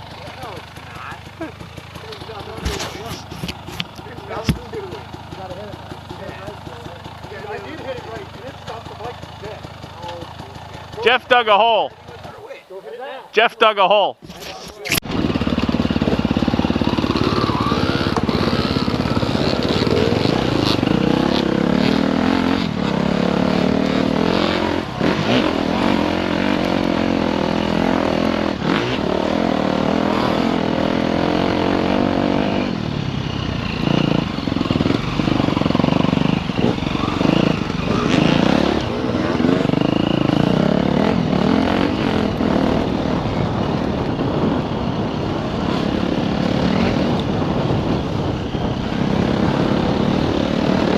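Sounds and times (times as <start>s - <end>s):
dirt bike engine revving: 0.0s - 12.4s, 14.2s - 50.9s.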